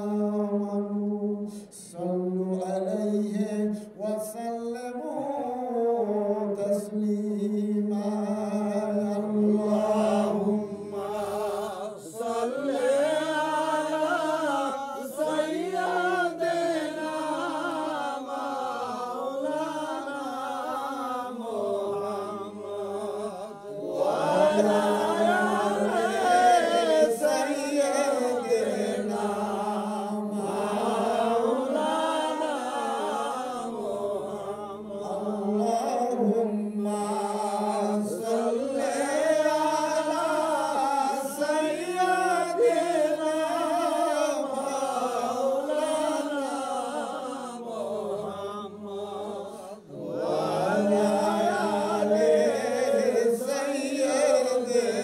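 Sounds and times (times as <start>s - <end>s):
men chanting an invocation: 8.0s - 55.0s.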